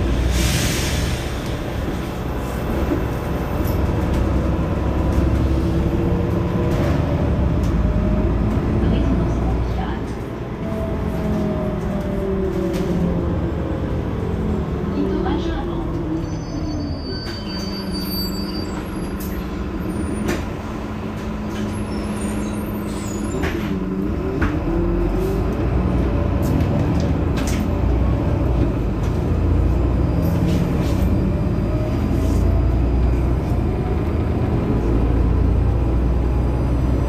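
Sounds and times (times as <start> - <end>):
bus engine running: 0.0 - 37.0.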